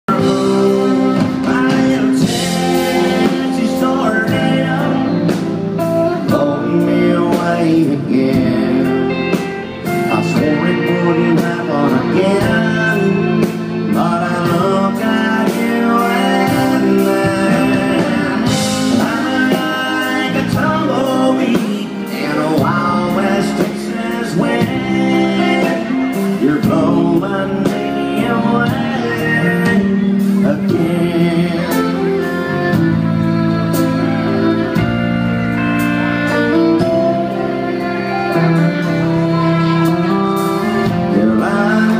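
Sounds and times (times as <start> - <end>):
live country band playing: 0.0 - 41.9.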